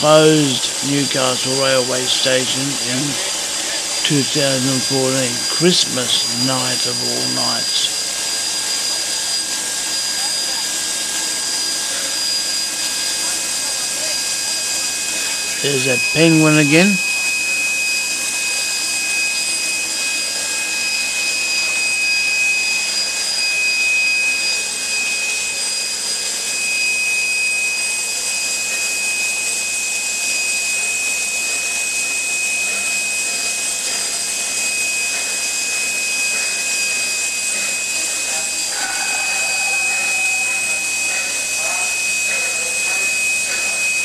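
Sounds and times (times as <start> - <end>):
steam hissing: 0.0 - 29.4, 31.5 - 44.0.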